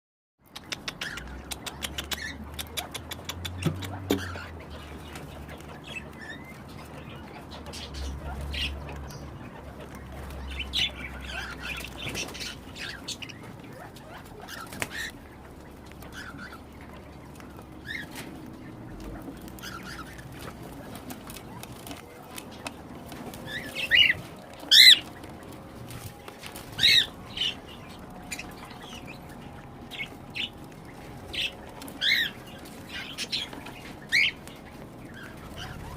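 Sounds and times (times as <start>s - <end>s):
cockatiels chirping and calling: 0.5s - 35.9s.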